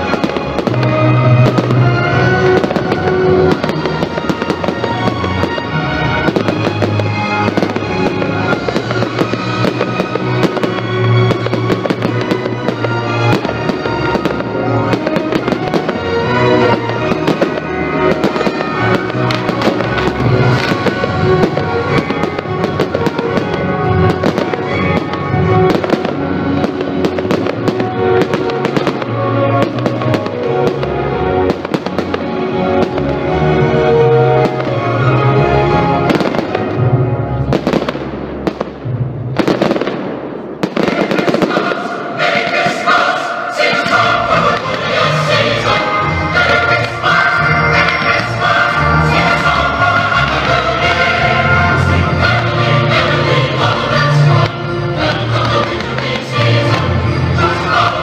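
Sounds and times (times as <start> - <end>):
loud recorded music: 0.0 - 39.6, 40.7 - 58.0
fireworks bangs and crackles: 0.0 - 58.0.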